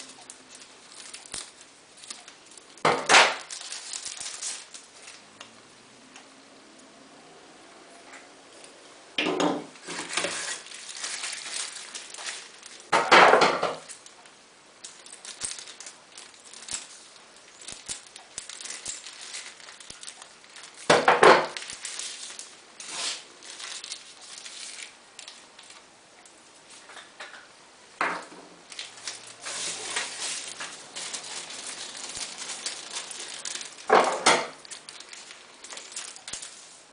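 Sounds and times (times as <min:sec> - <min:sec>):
cardboard and plastic scraping rustling: 0:00.0 - 0:05.4, 0:09.6 - 0:14.2, 0:14.8 - 0:25.8, 0:28.2 - 0:36.9.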